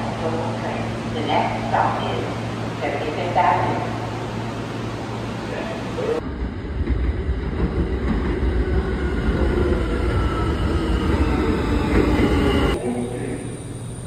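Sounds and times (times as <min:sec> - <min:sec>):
train wheels and motors rumbling: 0:00.0 - 0:14.0.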